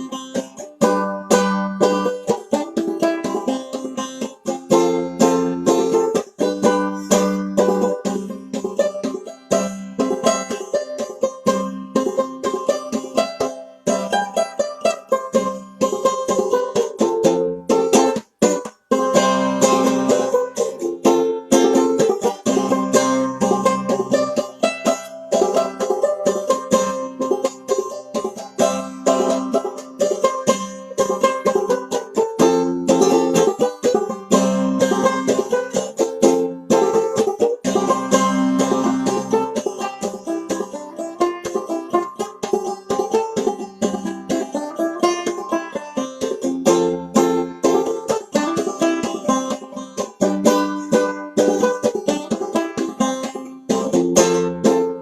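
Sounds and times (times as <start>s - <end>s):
banjo plucked old-time tune: 0.0s - 55.0s.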